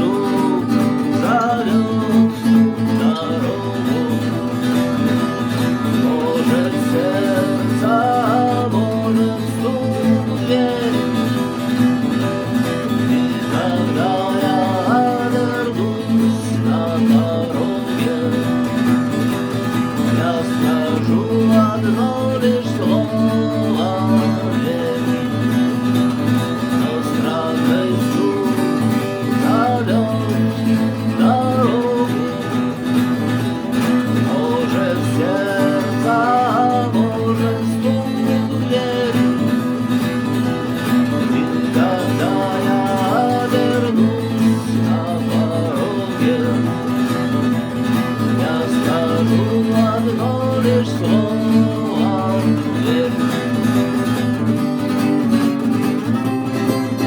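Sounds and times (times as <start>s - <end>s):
instrumental guitar music: 0.0s - 57.0s.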